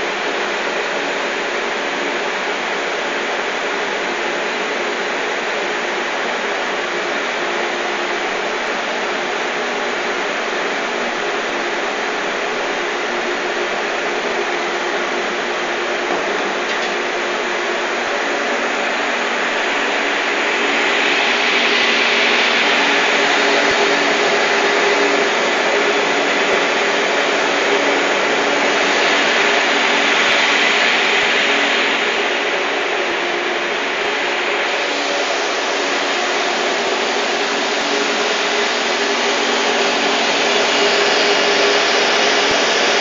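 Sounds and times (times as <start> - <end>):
industrial machinery whirring: 0.1 - 43.0.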